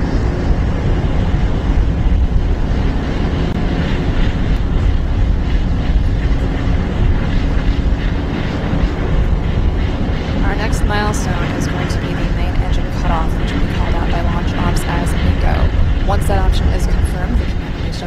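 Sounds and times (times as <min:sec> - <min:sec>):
rocket engines rumbling: 0:00.0 - 0:18.0.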